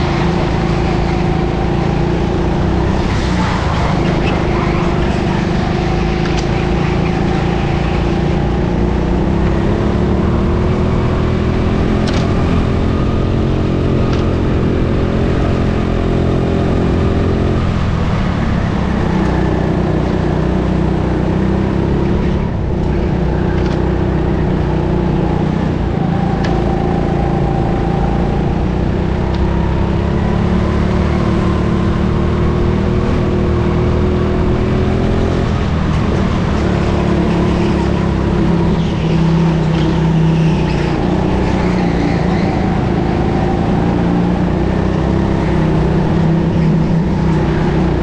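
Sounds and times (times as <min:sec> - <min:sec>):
go-kart motor running: 0:00.0 - 0:48.0.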